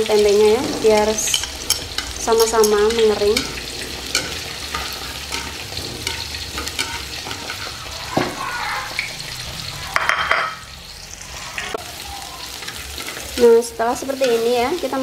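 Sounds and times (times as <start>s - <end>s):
chopsticks stirring in a wok: 0.0s - 15.0s
food sizzling in a wok: 0.0s - 15.0s.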